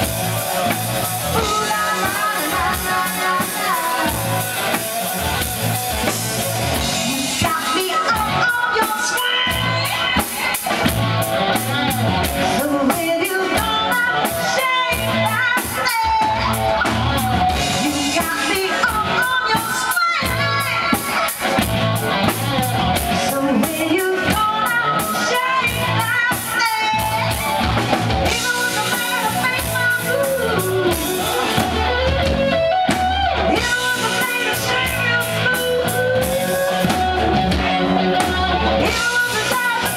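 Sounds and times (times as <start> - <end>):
drums: 0.0 - 39.9
electric guitar: 0.0 - 39.9
woman singing lead: 0.1 - 39.9.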